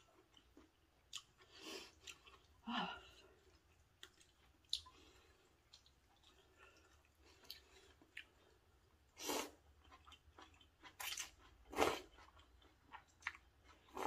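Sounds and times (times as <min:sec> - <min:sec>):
person chewing noodles: 0:00.0 - 0:14.0.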